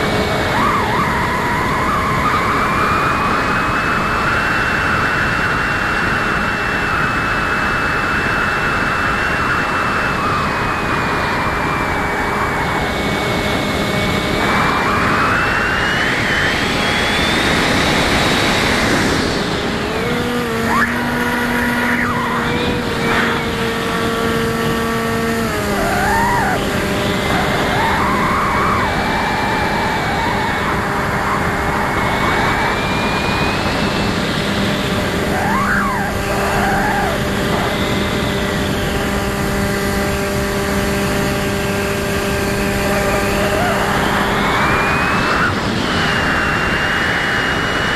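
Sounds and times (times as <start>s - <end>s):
rc plane motor whining: 0.0s - 47.9s
wind rush: 0.0s - 47.9s.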